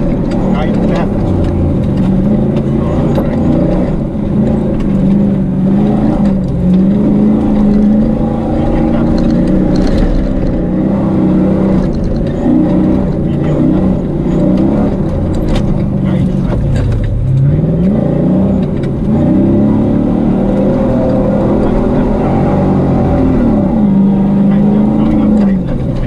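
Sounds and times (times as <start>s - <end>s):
rumble and rattles from rough track: 0.0s - 26.0s
truck engine under load: 0.0s - 26.0s.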